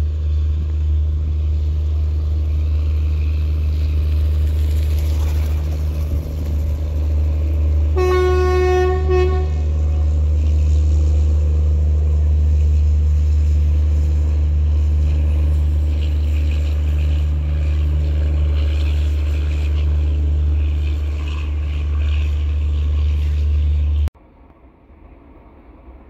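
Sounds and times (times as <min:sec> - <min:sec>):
wind rumbling on microphone: 0:00.0 - 0:24.1.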